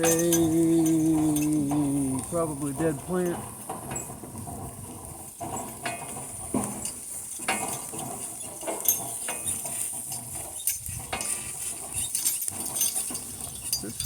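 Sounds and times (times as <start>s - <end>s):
harness gear clinking and knocking: 0.0s - 14.0s.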